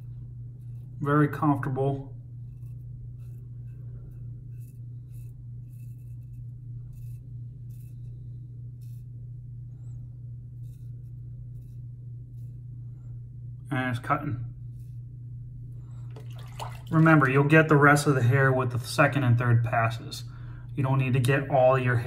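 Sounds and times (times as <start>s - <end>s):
low hum: 0.0s - 18.5s.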